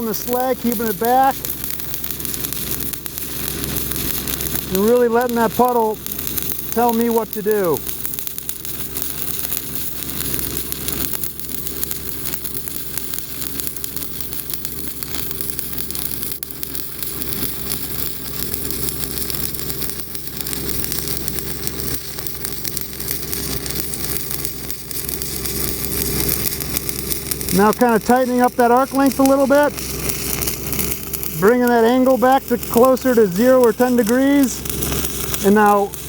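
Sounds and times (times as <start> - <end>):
welding arc crackling and sizzling: 0.0 - 36.0.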